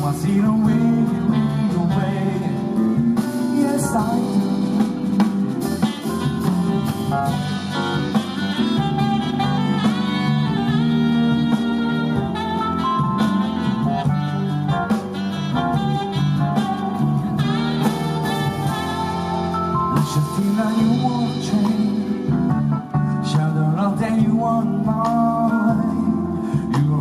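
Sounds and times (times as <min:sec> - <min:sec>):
bass: 0:00.0 - 0:27.0
saxophone lead line: 0:00.0 - 0:27.0.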